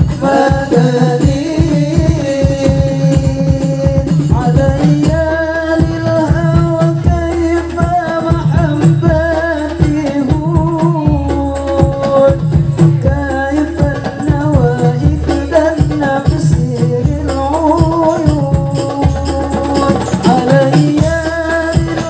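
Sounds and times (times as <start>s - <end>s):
frame drums beating: 0.0s - 22.0s
men singing devotional melody: 0.0s - 22.0s.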